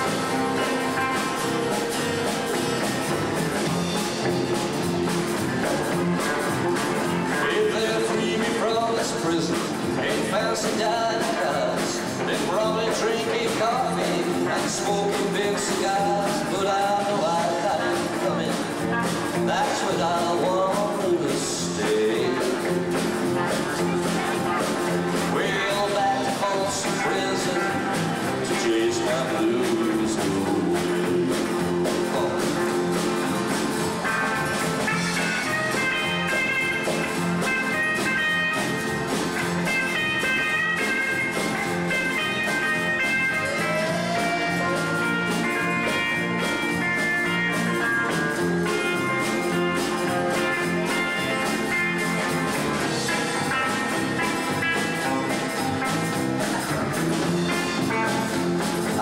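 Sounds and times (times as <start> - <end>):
drums: 0.0 - 59.0
lead electric guitar: 0.0 - 59.0
strummed acoustic guitar: 0.0 - 59.0.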